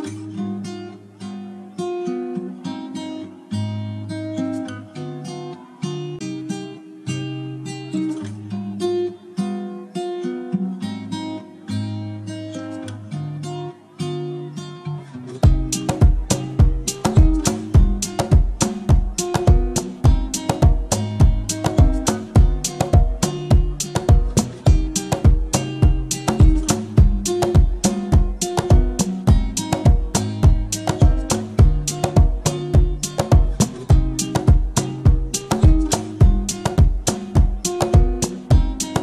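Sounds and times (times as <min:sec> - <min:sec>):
acoustic guitar picking and strumming: 0:00.0 - 0:39.0.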